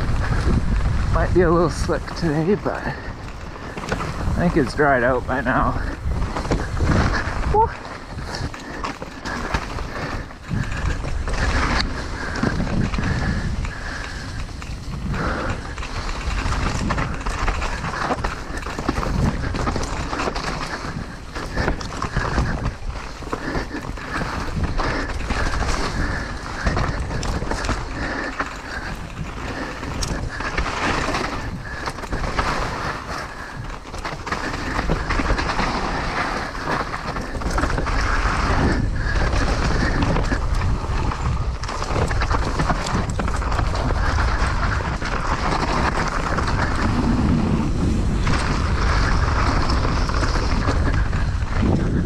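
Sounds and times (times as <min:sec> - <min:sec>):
bike knocking and rattling: 0:00.0 - 0:52.0
bike tyres rolling on dirt trail: 0:00.0 - 0:52.0
wind buffeting microphone: 0:00.0 - 0:52.0.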